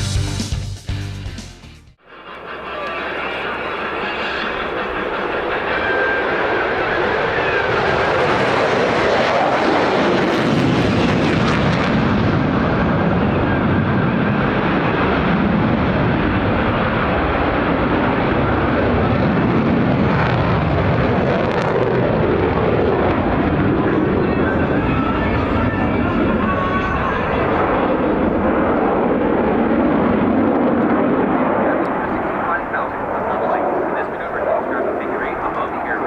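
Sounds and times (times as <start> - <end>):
jet engine roar: 2.0 - 36.0.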